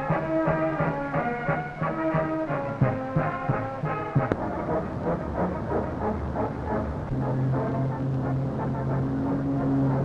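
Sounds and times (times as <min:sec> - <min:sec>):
armoured cars driving past: 0:00.0 - 0:10.0.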